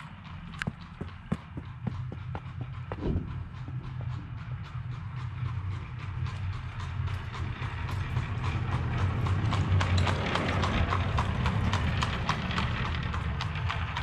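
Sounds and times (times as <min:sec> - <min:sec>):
horse hooves clip-clopping on road: 0:00.0 - 0:14.0
steady low rumble: 0:00.0 - 0:14.0.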